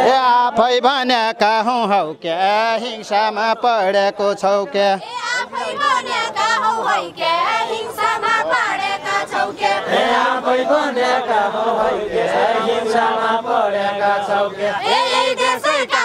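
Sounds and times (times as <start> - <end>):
group singing folk song: 2.2 - 16.0.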